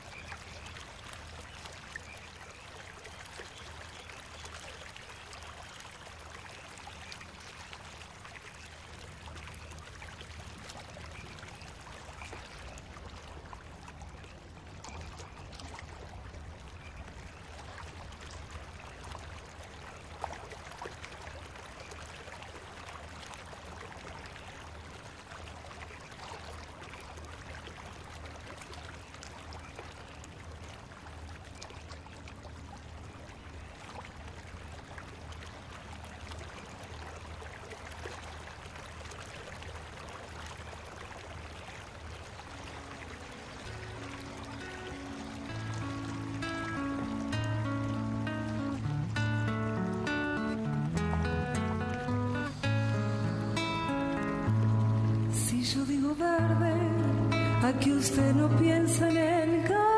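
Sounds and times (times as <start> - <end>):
flowing trickling water: 0.0 - 59.9.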